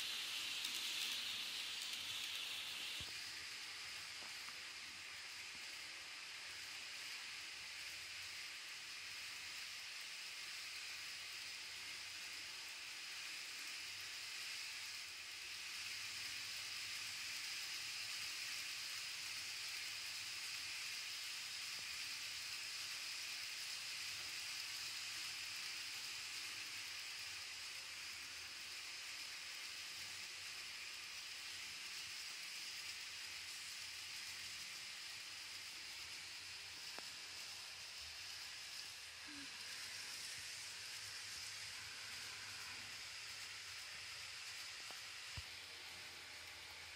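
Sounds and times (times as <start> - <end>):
model train wheels rolling on rails: 0.0 - 46.9.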